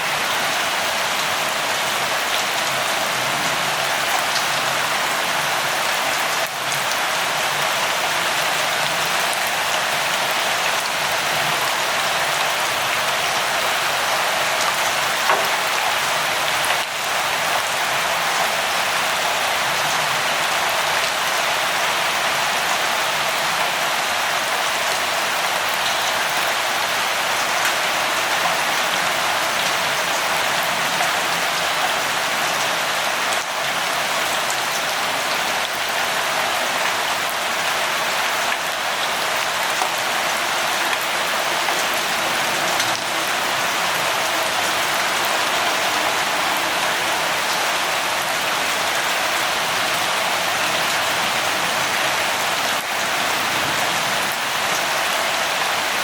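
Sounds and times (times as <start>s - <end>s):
rain drops on a surface: 0.0s - 56.0s.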